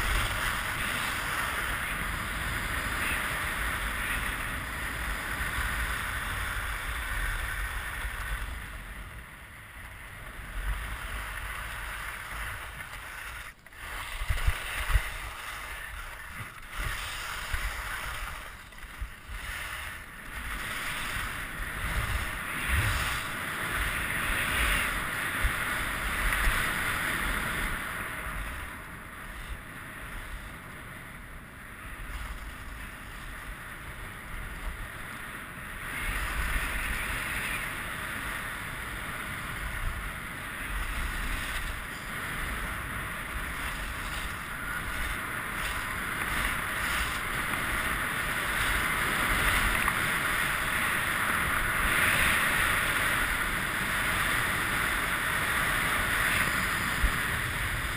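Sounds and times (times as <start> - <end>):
wind buffeting microphone: 0.0 - 30.5, 31.7 - 57.9
skis scraping over snow: 0.0 - 57.9.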